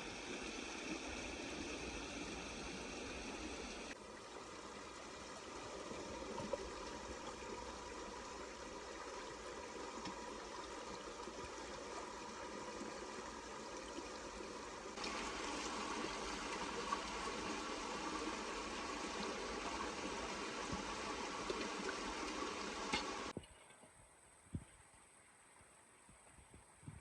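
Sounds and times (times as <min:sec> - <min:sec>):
rushing water: 0:00.0 - 0:23.5.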